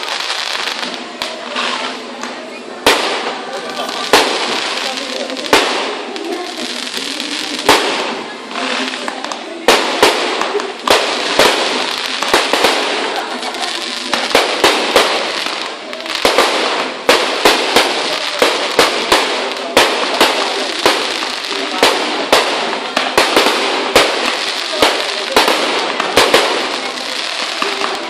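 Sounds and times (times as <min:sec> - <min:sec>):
fireworks bangs: 0:00.0 - 0:28.0
fireworks crackle: 0:00.0 - 0:28.0.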